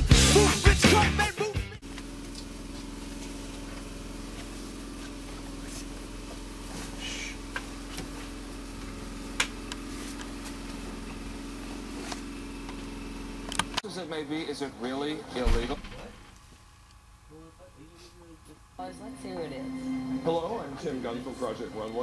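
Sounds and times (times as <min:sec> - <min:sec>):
low machine hum: 0:01.8 - 0:22.0.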